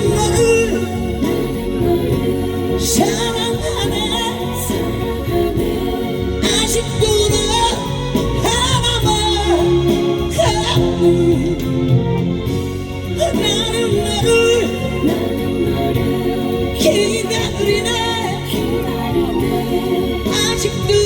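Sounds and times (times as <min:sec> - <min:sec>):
pop backing music over speakers: 0:00.0 - 0:21.0.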